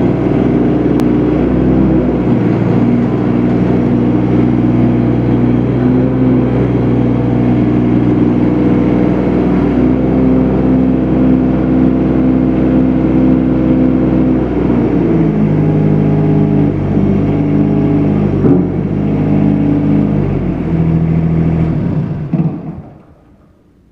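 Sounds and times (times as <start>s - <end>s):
diesel engine running: 0.0s - 23.5s.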